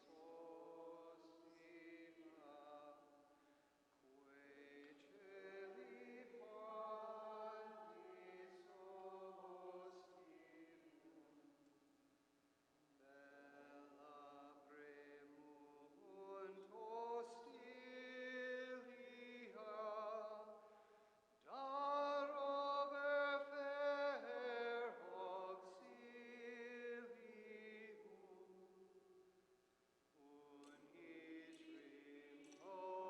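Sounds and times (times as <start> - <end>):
person singing a hymn: 0.0 - 3.3, 4.0 - 11.7, 13.0 - 29.3, 30.2 - 33.0.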